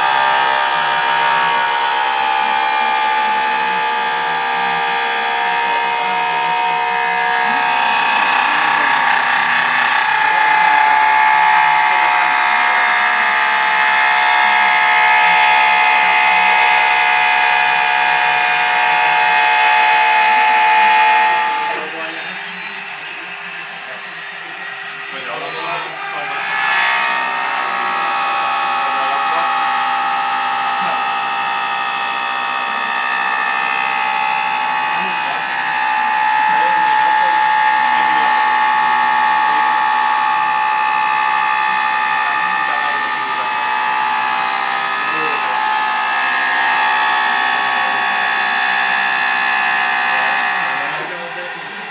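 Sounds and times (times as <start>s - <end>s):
machine motors whining: 0.0s - 51.9s.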